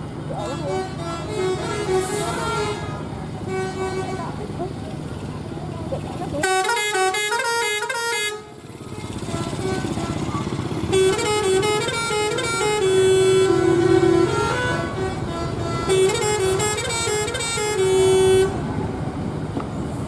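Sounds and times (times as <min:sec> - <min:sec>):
bus engines rumbling: 0:00.0 - 0:20.0
multi-tone bus horn melody: 0:00.3 - 0:04.7, 0:06.3 - 0:18.8.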